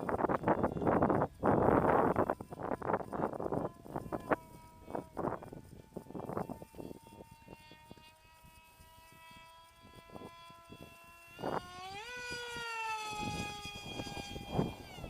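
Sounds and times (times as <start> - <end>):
model plane motor whining: 0.0 - 15.0
wind buffeting microphone: 0.0 - 15.0.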